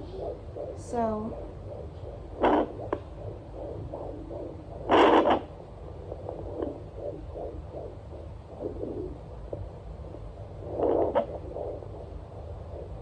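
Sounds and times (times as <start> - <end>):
fetal heartbeat on doppler: 0.0 - 13.0
mother's heartbeat: 0.0 - 13.0
probe rubbing rush: 0.0 - 13.0.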